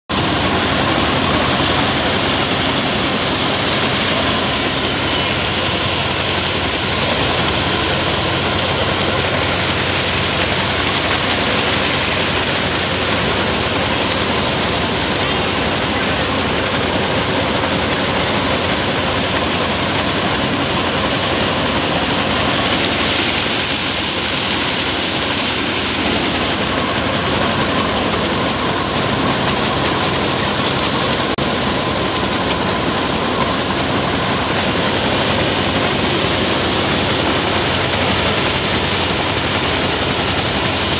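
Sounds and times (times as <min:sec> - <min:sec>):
tractor engine beat: 0:00.0 - 0:40.9
thresher drum and fan rushing: 0:00.1 - 0:40.9.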